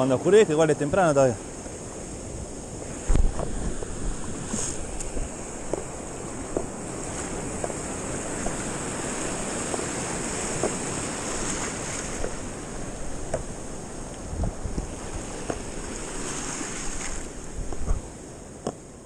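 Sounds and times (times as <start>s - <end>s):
surf washing over sand: 0.0s - 19.0s
wind on microphone: 1.4s - 18.3s.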